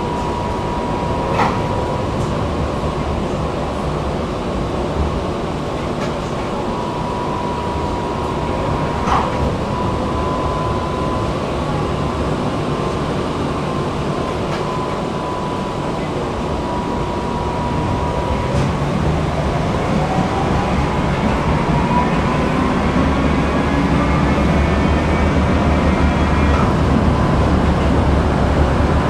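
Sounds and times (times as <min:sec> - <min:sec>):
steady high whine: 0:00.0 - 0:29.0
tram wheels rumbling on rail: 0:00.0 - 0:29.0.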